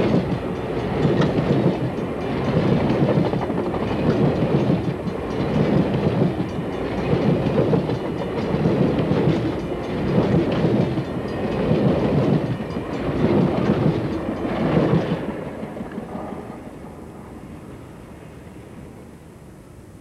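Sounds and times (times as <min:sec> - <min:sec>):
passenger train cars passing: 0:00.0 - 0:20.0.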